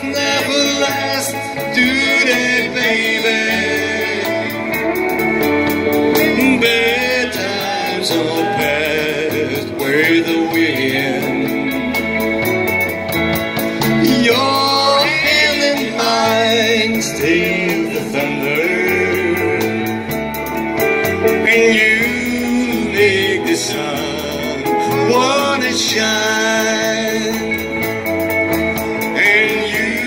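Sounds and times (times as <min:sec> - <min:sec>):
man singing: 0:00.0 - 0:12.7, 0:13.6 - 0:30.0
live country band: 0:00.0 - 0:30.0.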